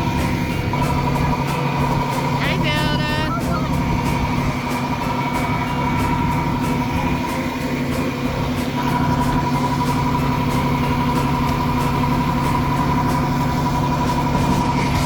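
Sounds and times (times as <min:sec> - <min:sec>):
constant whine: 0:00.0 - 0:15.0
truck engine idling: 0:00.0 - 0:15.0.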